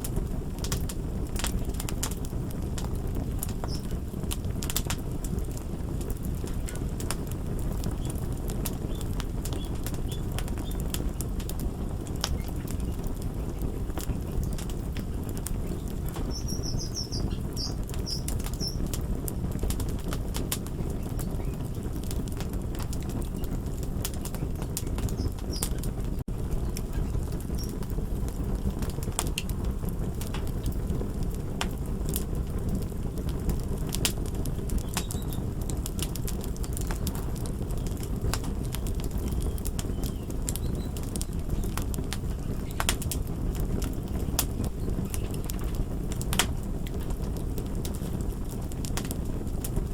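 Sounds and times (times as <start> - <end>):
fire crackling and popping: 0.0 - 49.9.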